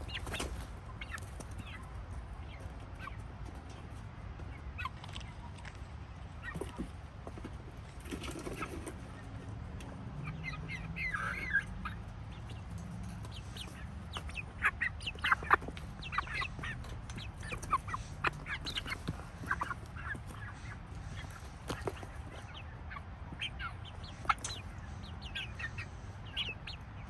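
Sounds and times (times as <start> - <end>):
chickens clucking and squawking: 0.0 - 27.0.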